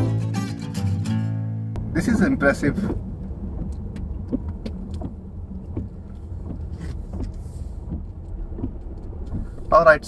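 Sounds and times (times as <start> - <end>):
engine and tyres rumbling: 0.0 - 10.0.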